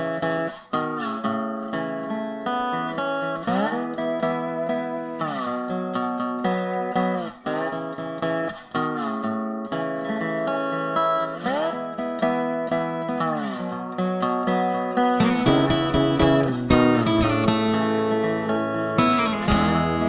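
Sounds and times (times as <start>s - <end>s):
guitar music: 0.0s - 20.0s.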